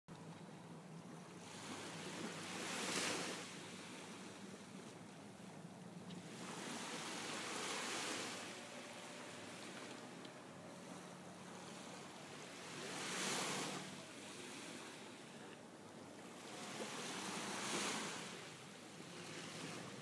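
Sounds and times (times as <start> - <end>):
steady background wash: 0.1 - 20.0
small waves breaking on shore: 0.3 - 20.0.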